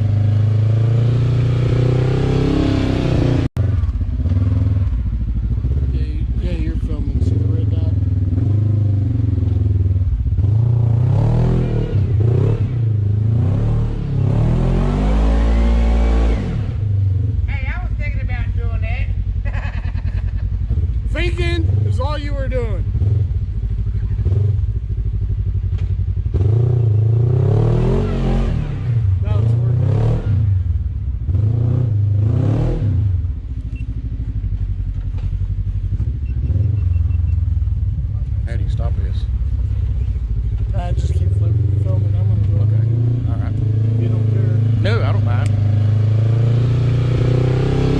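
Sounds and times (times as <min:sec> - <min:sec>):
utility vehicle engine revving: 0:00.0 - 0:47.9.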